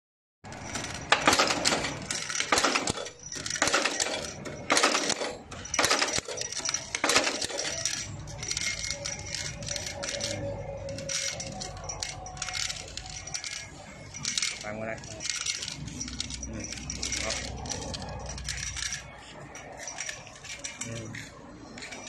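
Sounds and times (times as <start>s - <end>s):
riveting machine metallic clanks: 0.4s - 22.0s
light metallic clinks: 0.5s - 22.0s.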